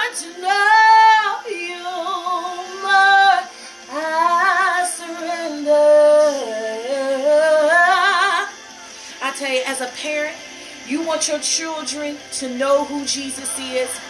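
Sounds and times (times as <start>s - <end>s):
woman singing worship song: 0.0s - 14.0s.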